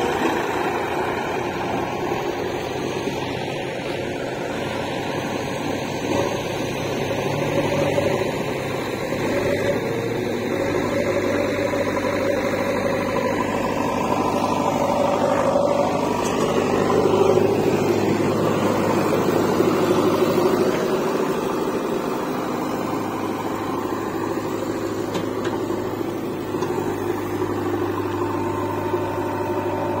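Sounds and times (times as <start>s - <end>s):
backhoe diesel engine running: 0.0s - 30.0s
tractor diesel engine running: 0.0s - 30.0s.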